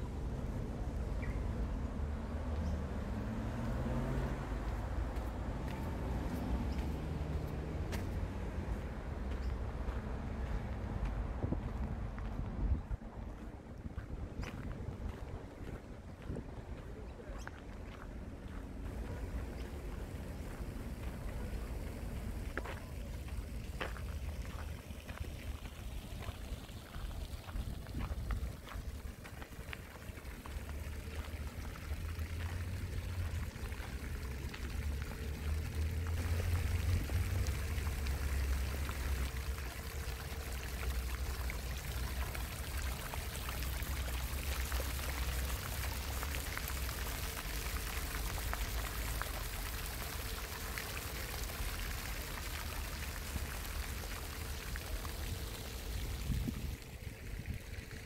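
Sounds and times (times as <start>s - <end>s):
fountain water splashing on paving: 0.0s - 58.0s.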